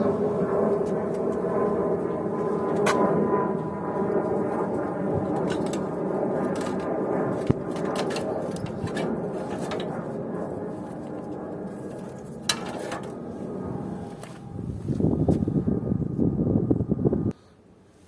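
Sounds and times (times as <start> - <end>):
steady mechanical drone: 0.0 - 17.8.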